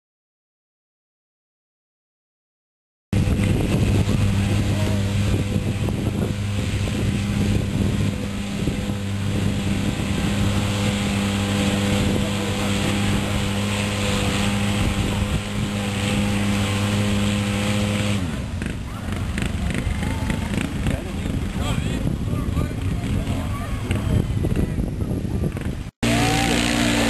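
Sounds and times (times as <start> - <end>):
vehicle engine under load: 3.2 - 24.6, 25.4 - 27.0.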